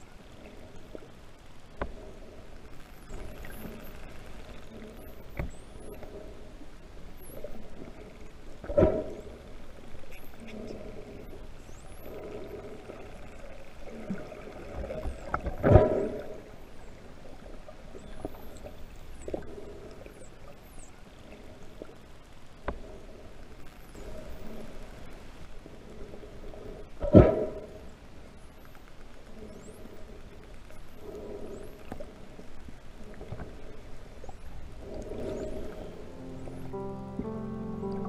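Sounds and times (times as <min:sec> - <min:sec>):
water wash underwater: 0:00.0 - 0:38.0.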